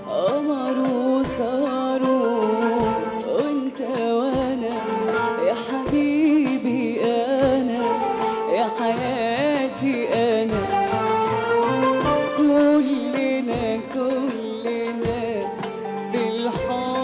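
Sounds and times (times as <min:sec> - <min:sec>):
qanun playing: 0:00.0 - 0:17.0
woman singing: 0:00.0 - 0:17.0.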